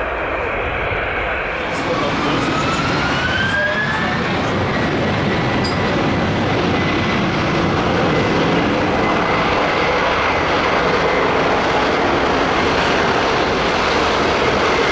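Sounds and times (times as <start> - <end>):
jet engine and air rush: 0.0 - 14.9.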